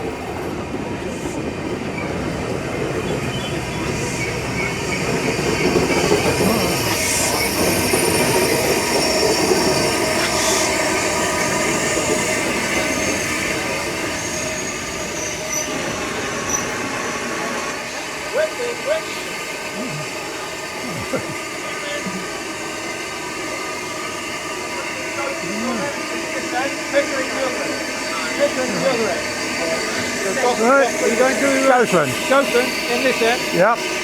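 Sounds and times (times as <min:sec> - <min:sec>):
train wheels rumbling on rails: 0:00.0 - 0:34.0
train brakes squealing: 0:01.0 - 0:34.0.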